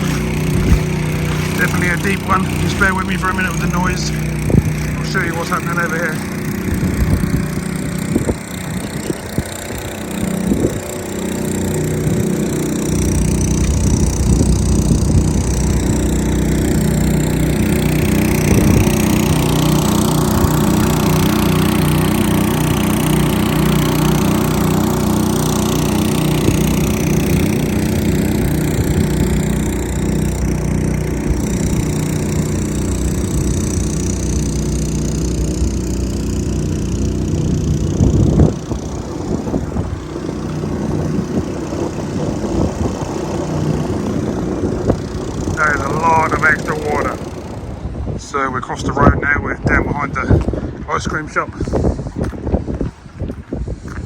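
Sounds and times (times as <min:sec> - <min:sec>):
engine-driven water pump running: 0:00.0 - 0:54.0.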